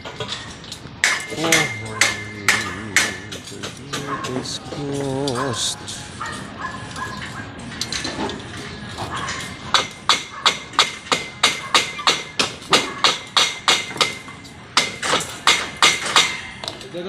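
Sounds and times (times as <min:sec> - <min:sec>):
metal tapping on steel bars: 0:00.0 - 0:16.9.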